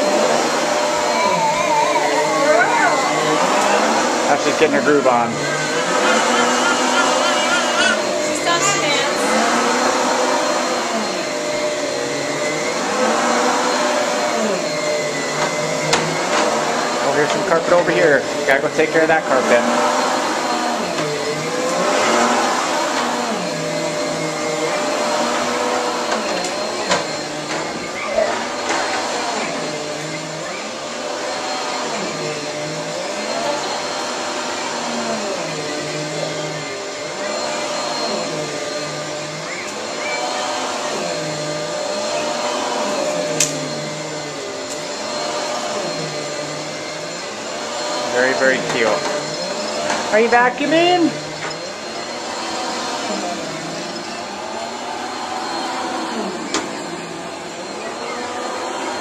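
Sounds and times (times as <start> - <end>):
vacuum cleaner running on carpet: 0.0 - 59.0.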